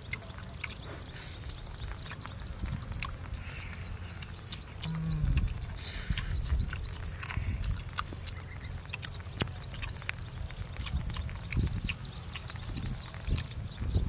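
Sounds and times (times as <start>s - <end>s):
people chewing with open mouths: 0.0s - 14.0s
low rumble: 1.4s - 14.0s.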